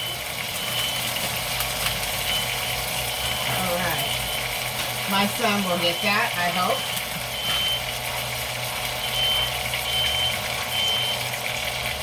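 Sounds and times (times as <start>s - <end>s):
smoke alarm beeping: 0.0s - 11.7s.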